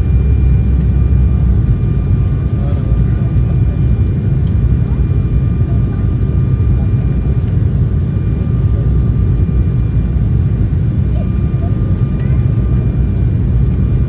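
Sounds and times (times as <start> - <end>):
aircraft engine and airflow rumble: 0.0 - 14.0.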